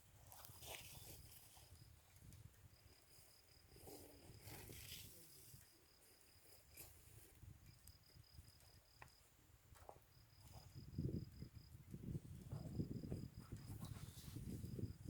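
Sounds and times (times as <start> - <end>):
cricket chirping: 0.2 - 15.0.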